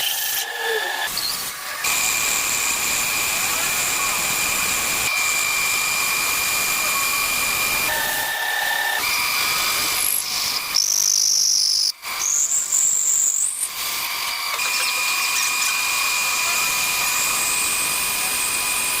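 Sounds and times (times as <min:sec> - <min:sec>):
wood lathe whining: 0:00.0 - 0:19.0.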